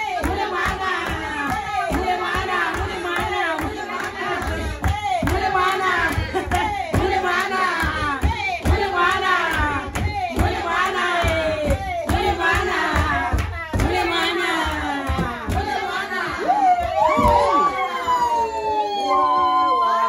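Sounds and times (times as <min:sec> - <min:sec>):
voices singing: 0:00.0 - 0:18.2.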